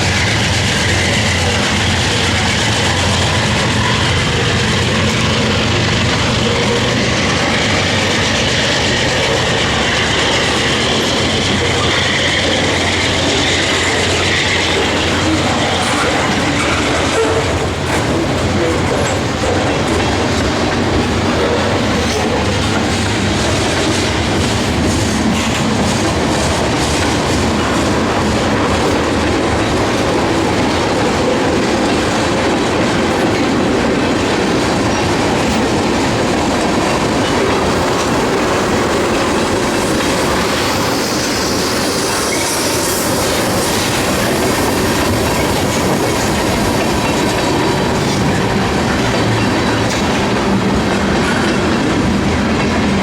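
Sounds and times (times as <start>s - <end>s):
freight train rumbling past: 0.0s - 53.0s
hiss from train wheels: 0.0s - 53.0s
wheels clattering on rail joints: 0.0s - 53.0s.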